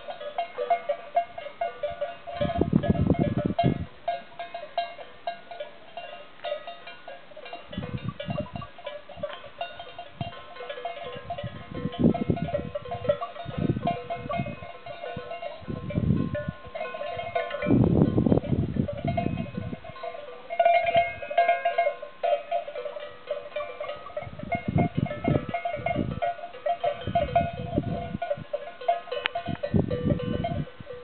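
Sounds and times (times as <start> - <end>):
sheep bells clanking: 0.0 - 31.0.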